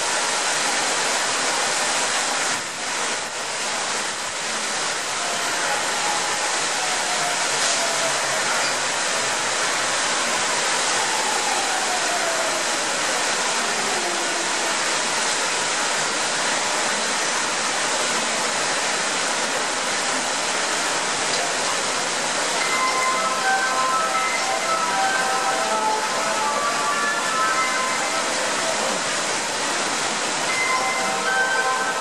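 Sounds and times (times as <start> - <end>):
rush of pouring water: 0.0 - 32.0.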